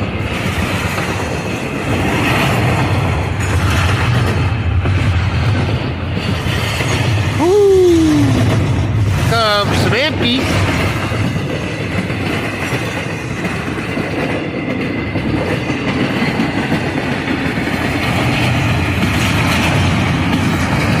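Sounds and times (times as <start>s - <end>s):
freight train wheels clattering: 0.0s - 21.0s.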